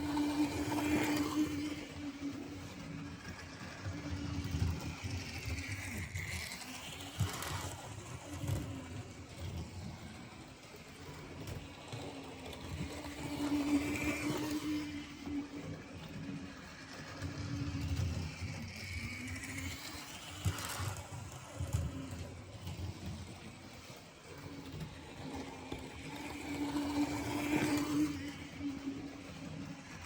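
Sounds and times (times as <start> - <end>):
model train motor whine: 0.0 - 30.0
wheels clattering on rails: 0.0 - 30.0.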